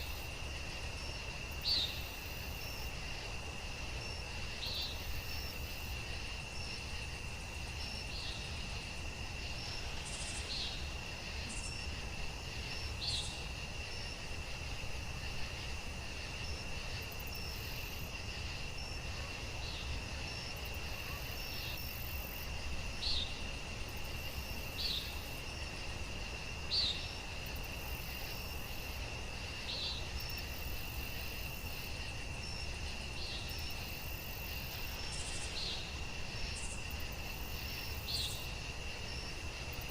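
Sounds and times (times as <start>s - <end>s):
crickets trilling and chirping: 0.0s - 39.9s.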